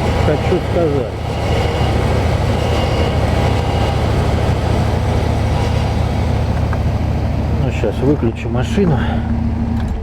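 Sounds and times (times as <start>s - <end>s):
car engine idling: 0.0s - 10.0s
power steering pump whine: 0.0s - 10.0s.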